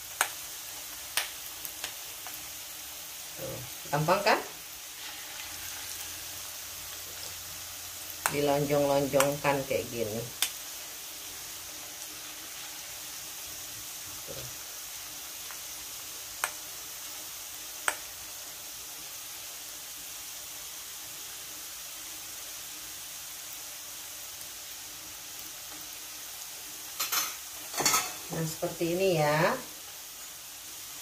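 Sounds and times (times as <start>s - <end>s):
hot oil sizzling in a wok: 0.0s - 31.0s.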